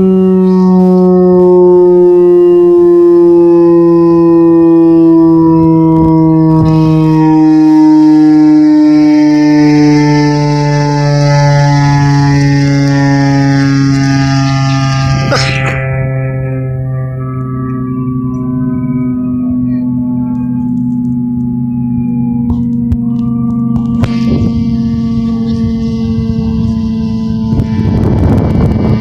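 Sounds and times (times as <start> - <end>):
two-tone warning siren: 0.0 - 29.0.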